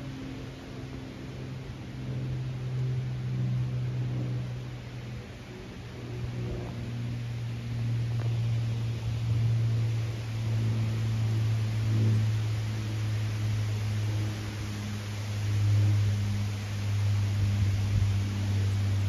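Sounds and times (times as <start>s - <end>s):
background hiss: 0.0s - 19.0s
low engine hum: 0.0s - 19.0s.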